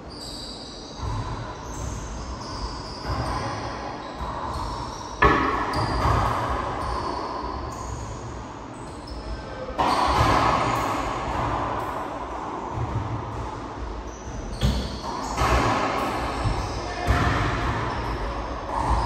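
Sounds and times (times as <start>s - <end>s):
racquetball hitting racquet and walls: 0.0s - 19.0s.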